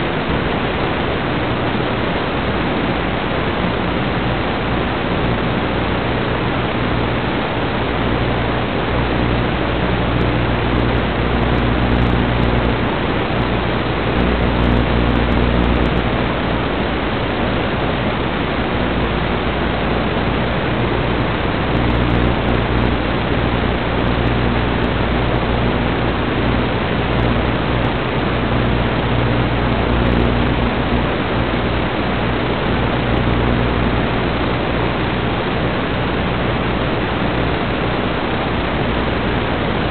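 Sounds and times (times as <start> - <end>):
faint low hum: 0.0 - 39.9
static hiss: 0.0 - 39.9.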